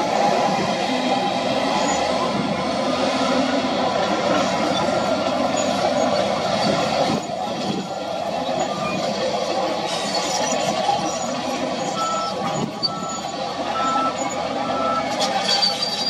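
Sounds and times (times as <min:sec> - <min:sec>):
wheel loader diesel engine under load: 0:00.0 - 0:16.0.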